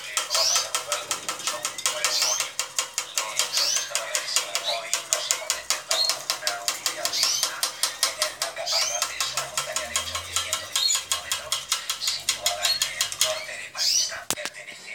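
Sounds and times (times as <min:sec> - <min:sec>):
rapid sharp clicks: 0:00.0 - 0:14.6
canaries chirping: 0:00.0 - 0:14.9.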